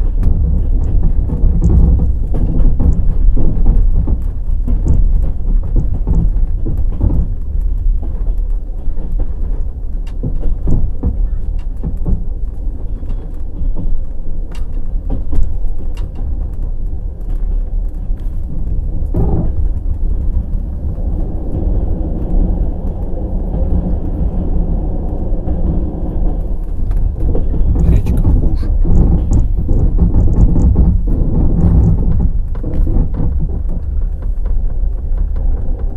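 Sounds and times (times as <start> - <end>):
train wheels rumbling on rails: 0.0 - 35.9
wheels clacking over rail joints: 0.0 - 35.9.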